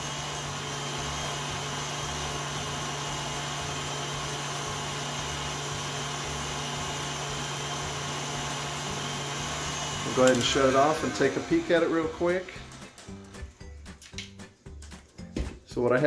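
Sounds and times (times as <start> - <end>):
stand mixer whisking eggs: 0.0 - 13.6.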